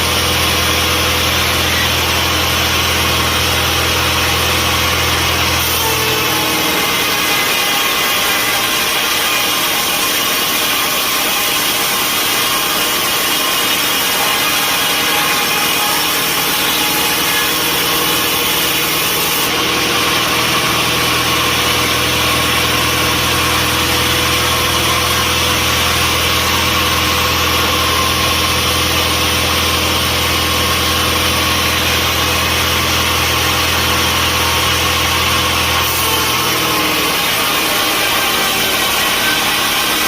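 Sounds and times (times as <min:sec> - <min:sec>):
sawmill machinery drone: 0:00.0 - 0:40.0.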